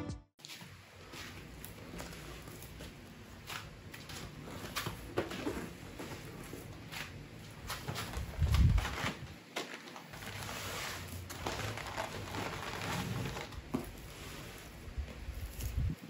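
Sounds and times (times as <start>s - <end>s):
paper crinkling and rustling: 1.3s - 15.9s.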